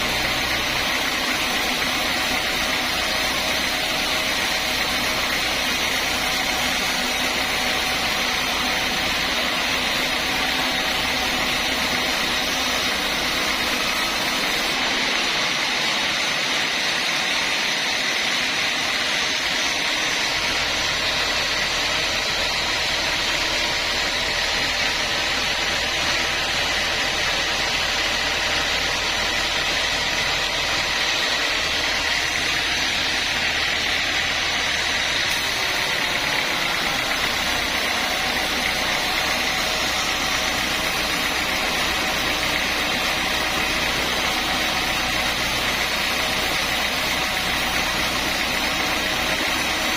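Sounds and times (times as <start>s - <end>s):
sawmill saw running: 0.0s - 49.9s.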